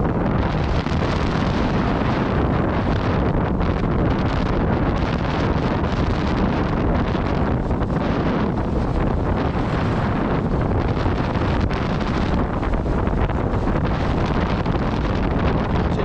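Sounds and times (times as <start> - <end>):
water rushing past hulls: 0.0 - 16.0
wind buffeting microphone: 0.0 - 16.0.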